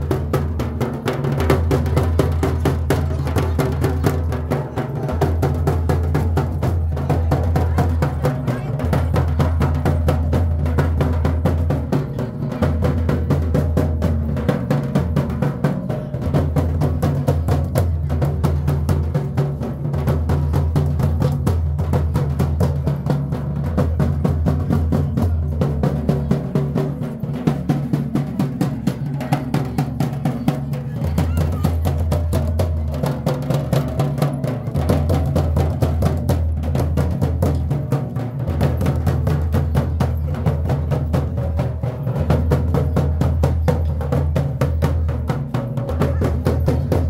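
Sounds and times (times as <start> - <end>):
fast dense drumming: 0.0 - 47.0.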